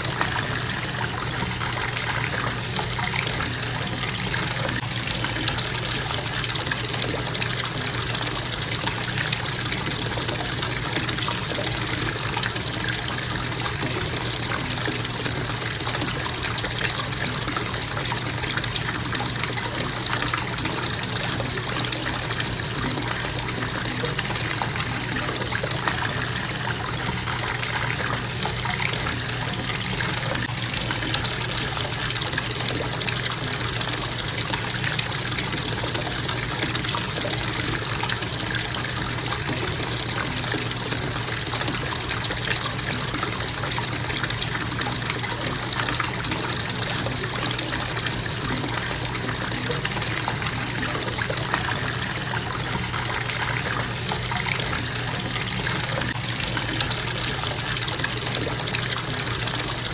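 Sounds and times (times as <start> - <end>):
faucet running into bathtub: 0.0 - 59.9.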